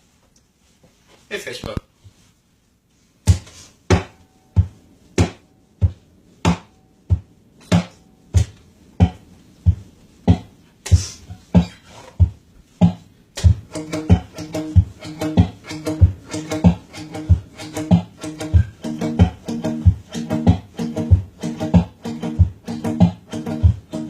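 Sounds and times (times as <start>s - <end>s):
deep thumping beat: 3.2s - 24.0s.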